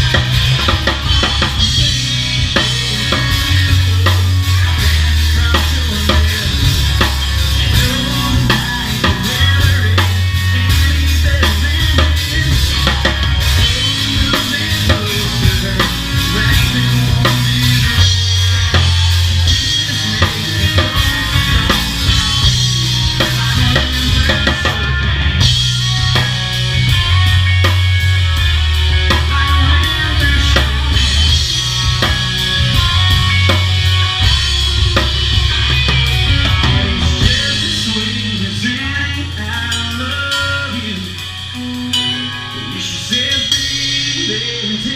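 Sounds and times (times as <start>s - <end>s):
drum kit hits: 0.0s - 44.9s
low bass notes: 0.0s - 44.9s
rock band playing instrumental: 0.0s - 44.9s.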